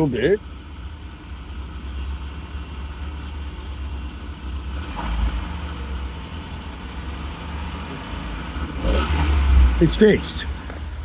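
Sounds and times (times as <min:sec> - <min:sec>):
van engine running with growl: 0:00.0 - 0:11.0.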